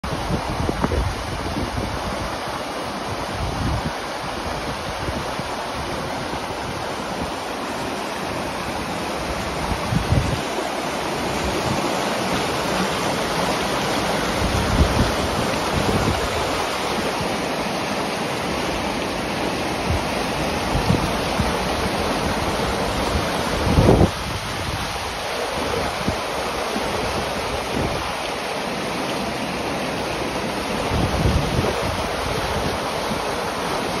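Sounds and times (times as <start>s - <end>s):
wind buffeting microphone: 0.0s - 7.5s, 8.4s - 17.4s, 19.8s - 28.2s, 30.6s - 34.0s
river water rushing over rocks: 0.0s - 34.0s.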